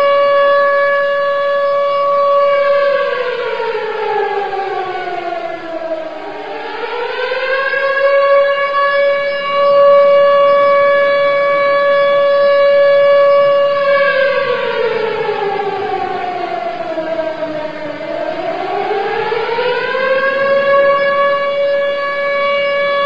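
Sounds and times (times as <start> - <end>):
civil defence siren wailing: 0.0 - 23.0.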